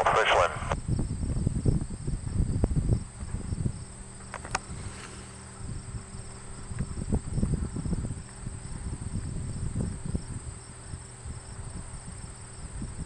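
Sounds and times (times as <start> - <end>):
wind buffeting microphone: 0.7 - 13.0
crickets chirping: 0.8 - 13.0.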